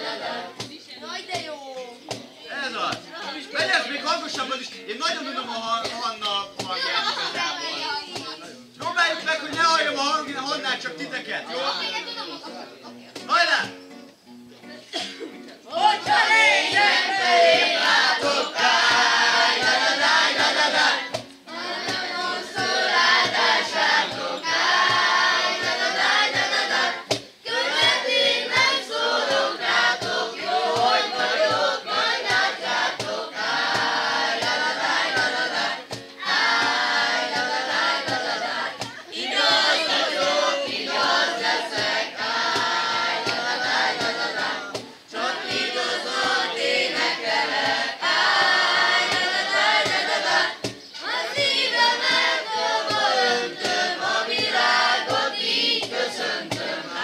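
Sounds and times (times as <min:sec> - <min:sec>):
group of young voices singing: 0:00.0 - 0:01.0, 0:06.2 - 0:09.6, 0:15.7 - 0:57.0
acoustic guitar: 0:00.0 - 0:57.0
cajon beat: 0:00.0 - 0:57.0.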